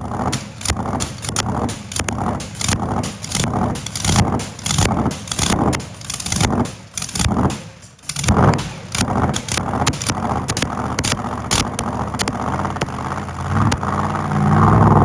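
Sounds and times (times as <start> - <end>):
engine revving and crackling: 0.0 - 15.0.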